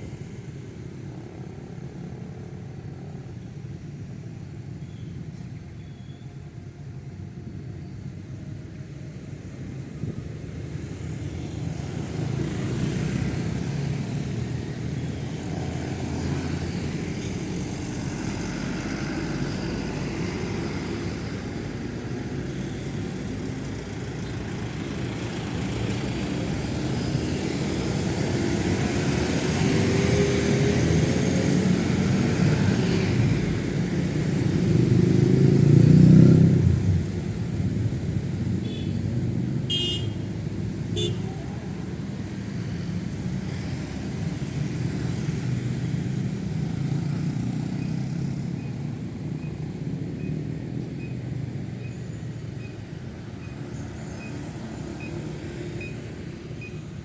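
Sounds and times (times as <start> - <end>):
road traffic rumble: 0.0 - 57.0
tyres on asphalt: 7.8 - 57.0.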